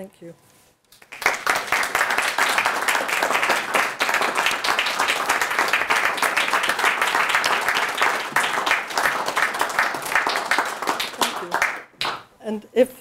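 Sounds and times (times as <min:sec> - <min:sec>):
audience applauding: 0:01.0 - 0:12.2.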